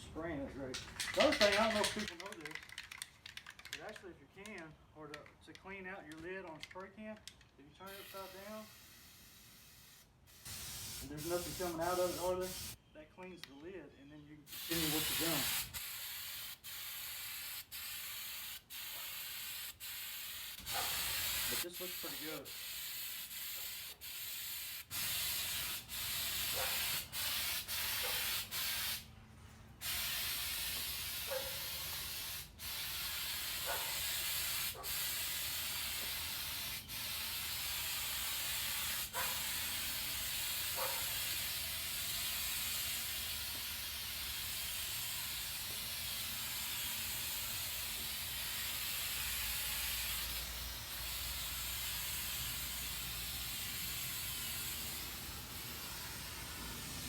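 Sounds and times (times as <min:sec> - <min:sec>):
aerosol spray can hissing: 0:07.9 - 0:12.8, 0:14.5 - 0:29.0, 0:29.8 - 0:57.0.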